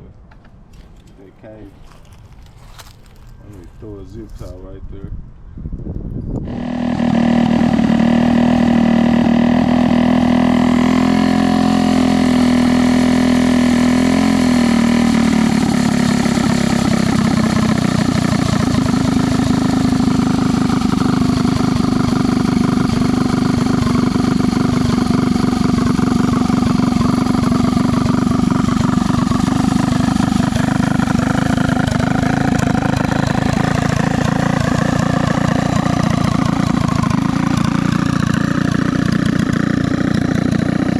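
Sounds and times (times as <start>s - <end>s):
minibike engine running: 6.4s - 40.9s.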